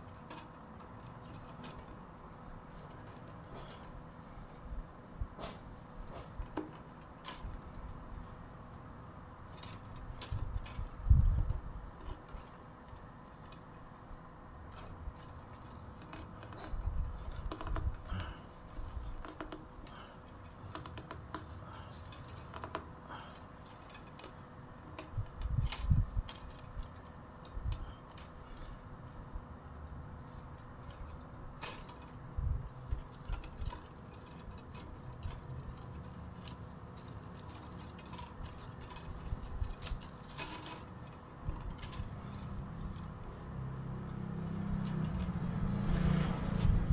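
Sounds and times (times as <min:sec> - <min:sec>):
bamboo strips clicking and rustling: 0:00.0 - 0:46.9.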